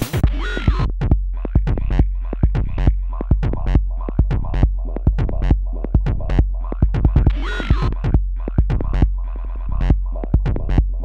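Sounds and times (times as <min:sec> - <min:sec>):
electronic techno music: 0:00.0 - 0:11.0.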